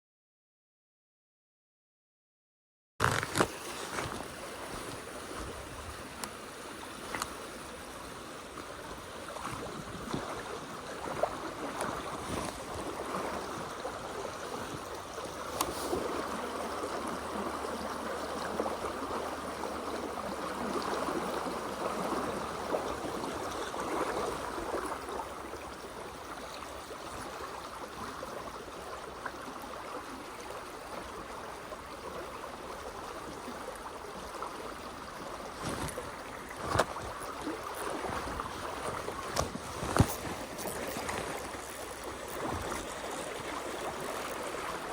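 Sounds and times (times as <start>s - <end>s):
stream rushing over rocks: 3.0s - 44.9s.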